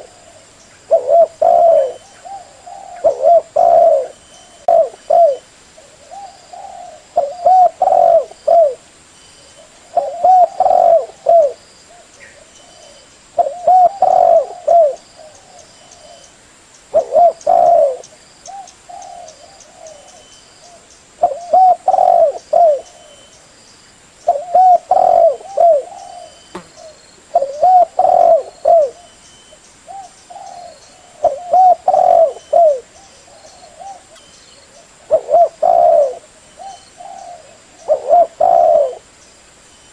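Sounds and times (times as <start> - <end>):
dove cooing: 0.0 - 8.8, 9.5 - 16.3, 16.9 - 23.3, 24.3 - 29.2, 29.9 - 39.1.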